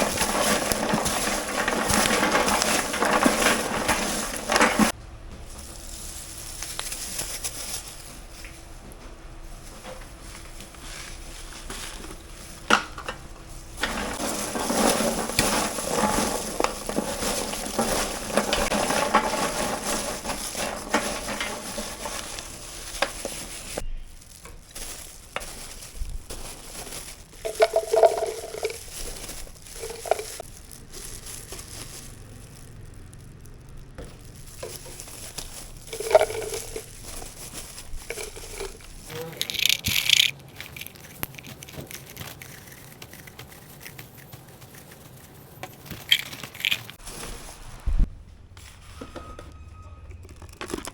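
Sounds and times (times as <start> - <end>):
utensils clinking: 0.0 - 8.6, 9.6 - 47.5, 48.9 - 50.9.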